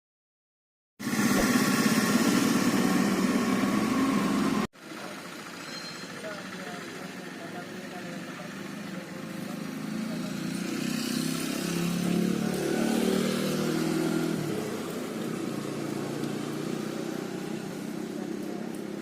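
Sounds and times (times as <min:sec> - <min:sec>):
vehicle engine running: 0:01.0 - 0:19.0.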